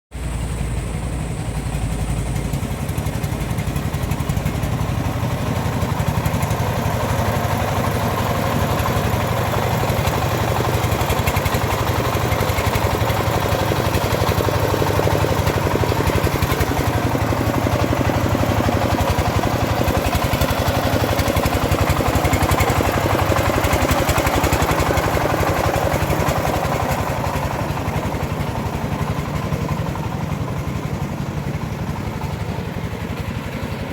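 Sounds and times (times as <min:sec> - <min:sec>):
bandsaw mill engine running: 0:00.2 - 0:33.9.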